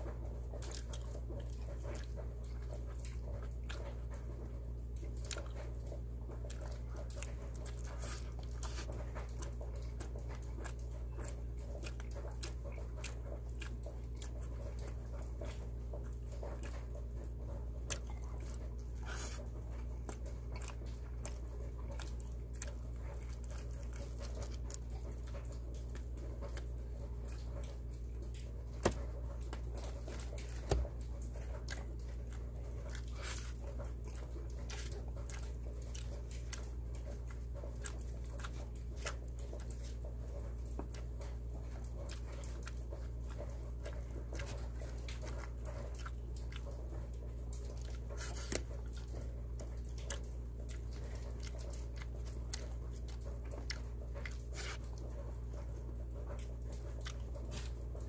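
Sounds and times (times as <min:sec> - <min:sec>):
chewing with wet mouth clicks: 0:00.0 - 0:58.0
low electrical hum: 0:00.0 - 0:58.0.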